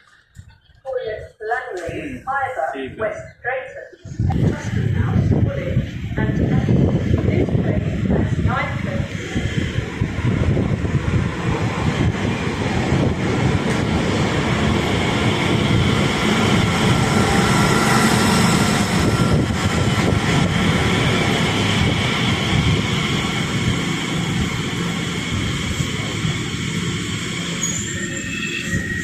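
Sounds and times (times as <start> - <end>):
train wheels rumbling on track: 4.3 - 29.0.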